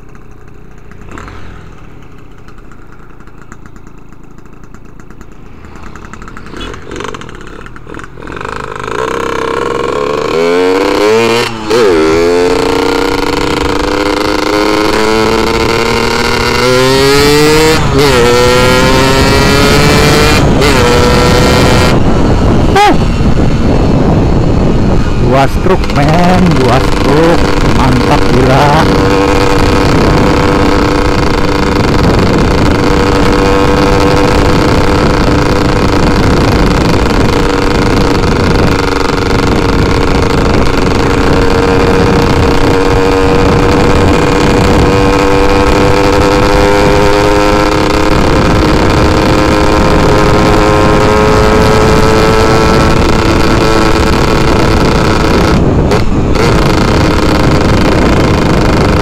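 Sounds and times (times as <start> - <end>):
two-stroke motorcycle engine: 0.0 - 59.0
wind over microphone: 9.2 - 59.0.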